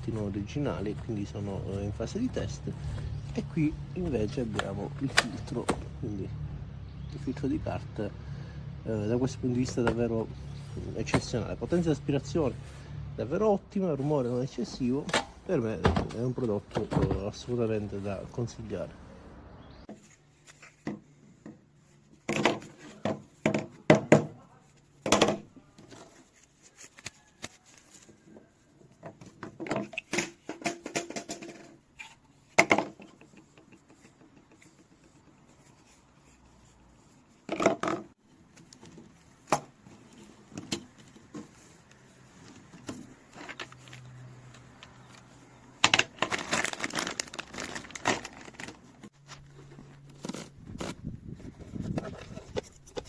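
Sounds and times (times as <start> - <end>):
objects being handled: 0.0 - 6.0, 9.0 - 13.2, 14.0 - 19.1, 19.7 - 53.0.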